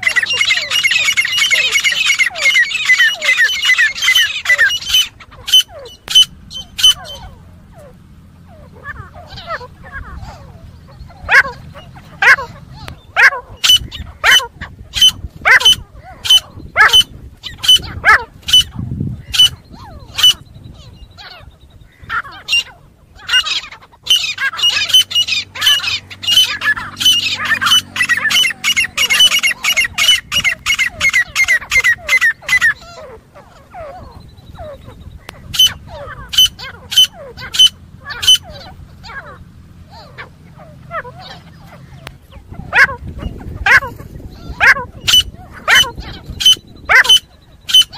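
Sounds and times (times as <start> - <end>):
francolin calling: 0.0 - 47.9.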